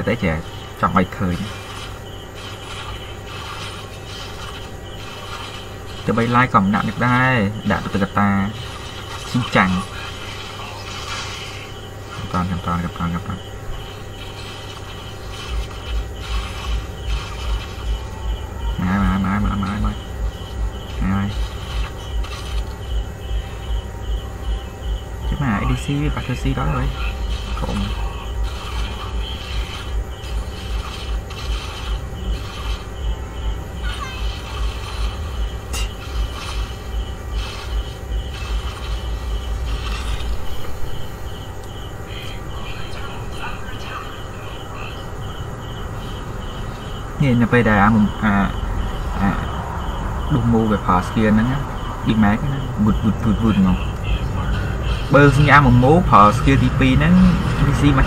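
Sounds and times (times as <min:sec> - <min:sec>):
insect-like chirping ambience: 0:00.0 - 0:58.0.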